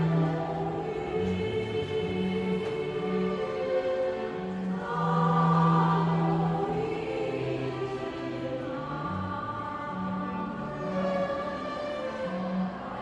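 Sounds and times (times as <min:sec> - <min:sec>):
choir singing sustained chords: 0:00.0 - 0:13.0.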